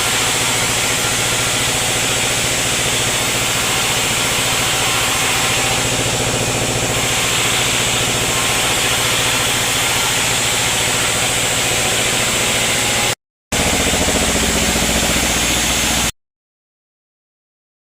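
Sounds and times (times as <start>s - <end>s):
sawmill machinery humming: 0.0s - 16.1s.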